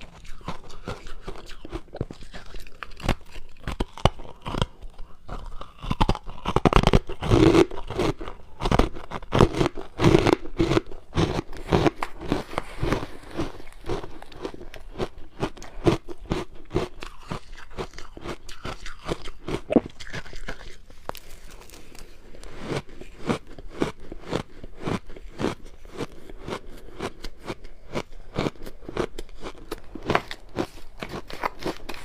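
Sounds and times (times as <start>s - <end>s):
ice crunching while chewed: 0.0s - 32.0s.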